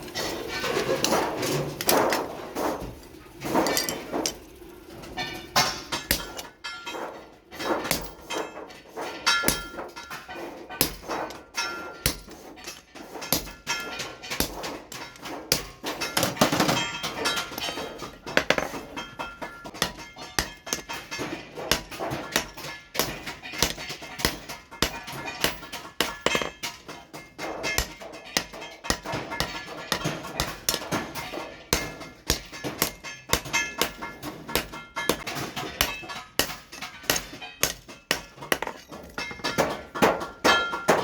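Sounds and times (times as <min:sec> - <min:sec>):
hammer striking steel on anvil: 0:00.0 - 0:41.0.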